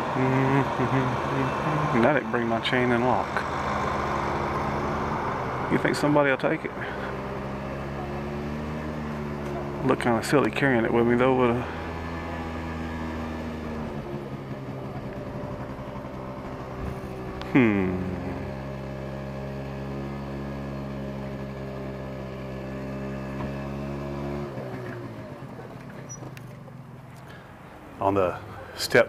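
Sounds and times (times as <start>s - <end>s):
scooter engine running: 0.0s - 29.0s.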